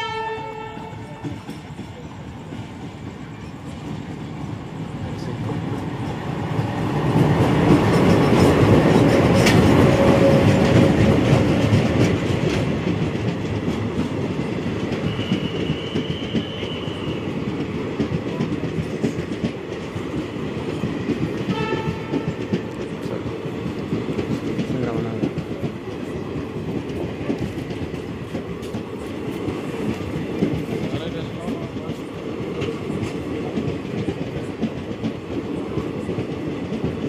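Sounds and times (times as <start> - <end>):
train wheels clicking over rail joints: 0.5 - 37.0.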